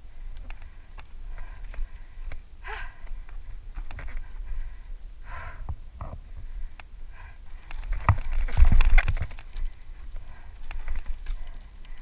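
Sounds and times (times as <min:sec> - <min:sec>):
heavy breathing: 0:00.0 - 0:08.3, 0:09.4 - 0:12.0
wind buffeting camera: 0:00.0 - 0:12.0.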